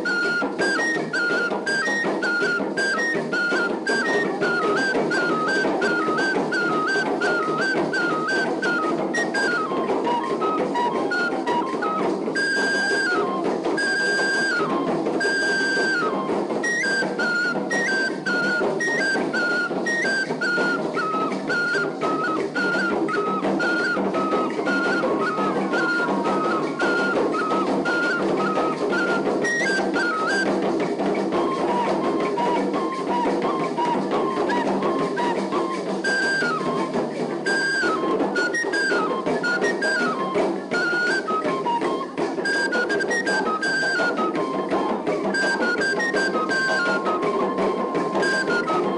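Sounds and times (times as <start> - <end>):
drum ensemble dance rhythm: 0.0 - 15.2, 15.8 - 48.9.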